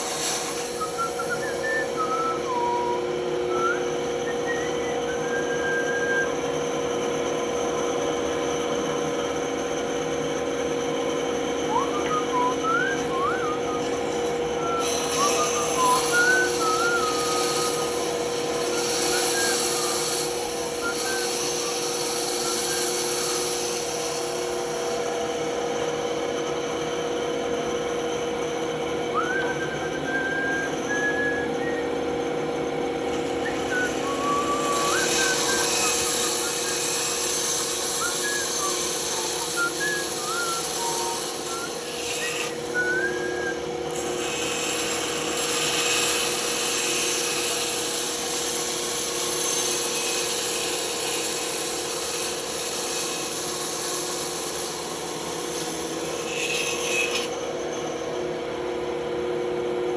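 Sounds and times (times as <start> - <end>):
band saw cutting wood: 0.0 - 58.6.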